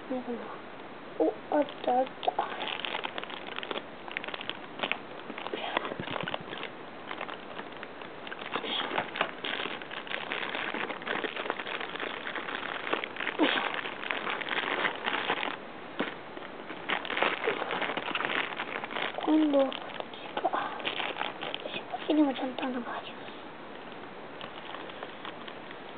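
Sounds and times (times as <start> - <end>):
plastic wrapper crinkling: 1.6 - 23.1, 23.7 - 25.9.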